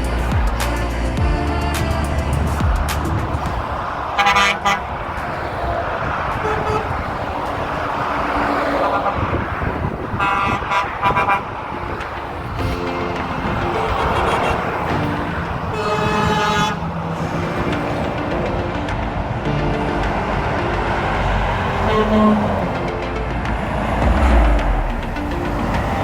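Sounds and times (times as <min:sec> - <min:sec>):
truck horns blasting: 0:00.0 - 0:24.5
traffic rushing: 0:00.0 - 0:26.0.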